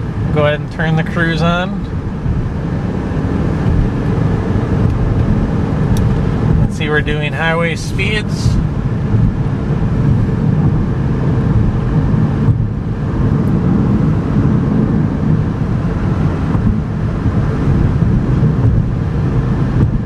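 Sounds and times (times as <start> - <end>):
car engine: 0.0 - 20.0
road and tyre rumble: 0.0 - 20.0
wind noise: 0.0 - 20.0.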